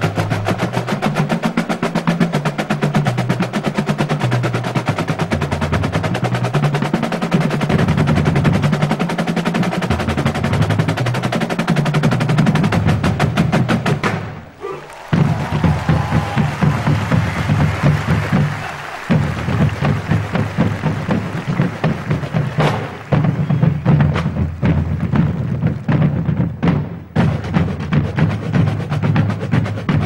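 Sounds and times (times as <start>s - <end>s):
lower drum pattern: 0.0s - 30.0s
snare drums fast unison rolls: 0.0s - 30.0s.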